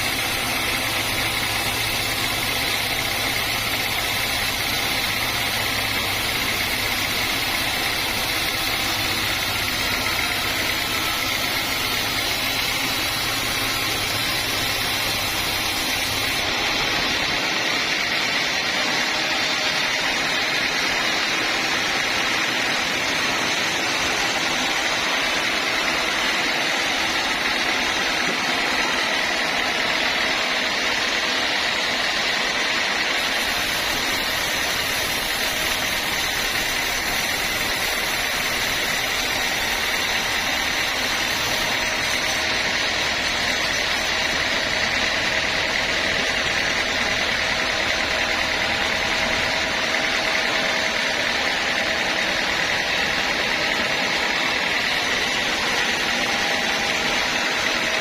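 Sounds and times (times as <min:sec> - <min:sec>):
band sawmill whining: 0:00.0 - 0:58.0.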